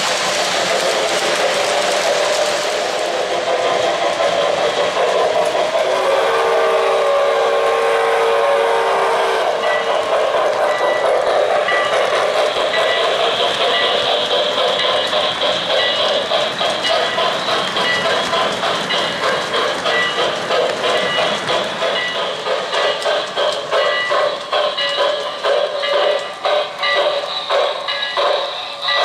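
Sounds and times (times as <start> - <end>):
model trains rumbling on track: 0.0 - 29.0.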